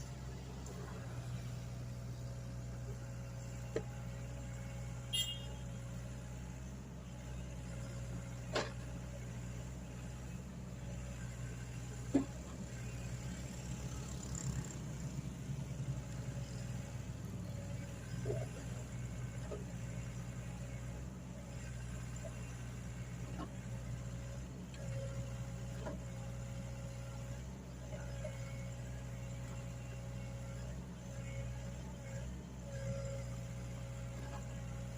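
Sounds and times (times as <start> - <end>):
excavator engine humming: 0.0 - 34.9.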